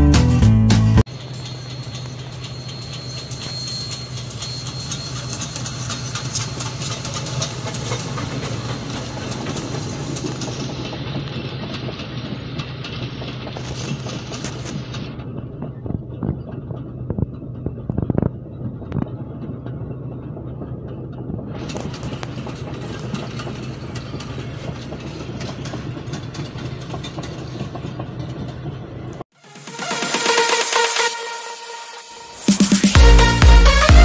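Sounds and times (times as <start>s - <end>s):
train wheels clacking over rail joints: 1.1s - 29.2s.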